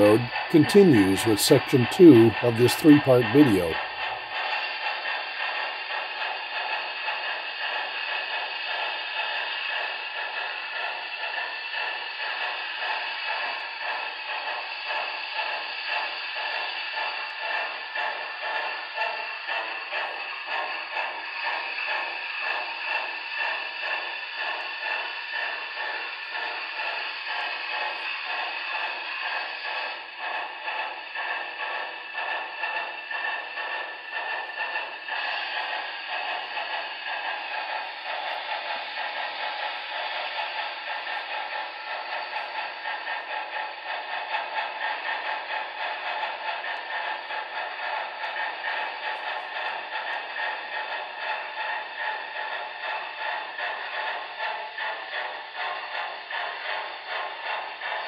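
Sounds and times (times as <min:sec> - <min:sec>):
model train running: 0:00.0 - 0:58.0.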